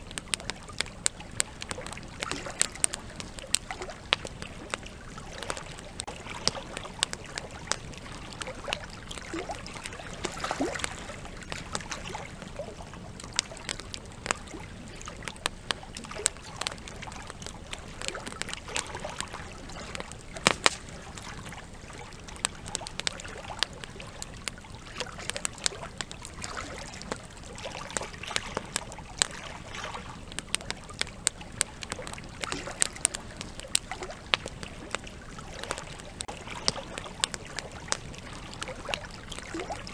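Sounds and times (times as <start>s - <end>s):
campfire crackling and popping: 0.0s - 39.9s
river water flowing: 0.0s - 39.9s.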